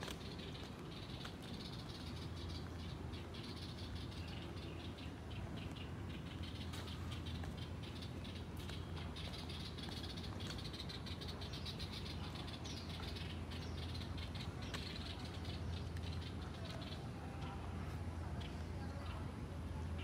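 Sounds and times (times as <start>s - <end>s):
cicadas chirping: 0.0s - 17.2s.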